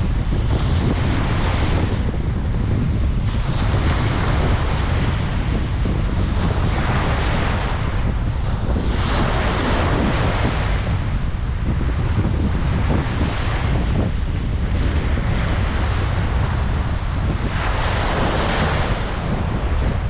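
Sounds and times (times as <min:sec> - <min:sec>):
ocean waves breaking: 0:00.0 - 0:20.0
wind buffeting microphone: 0:00.0 - 0:20.0.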